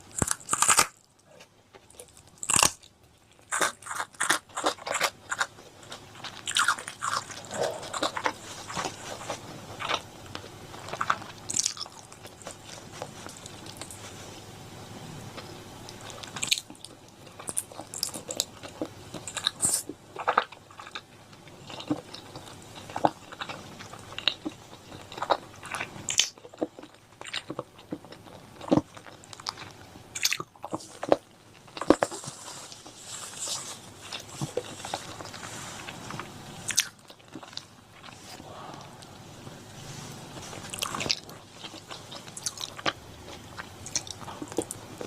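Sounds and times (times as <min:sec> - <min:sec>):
person chewing food: 0:00.1 - 0:14.2, 0:15.3 - 0:45.0.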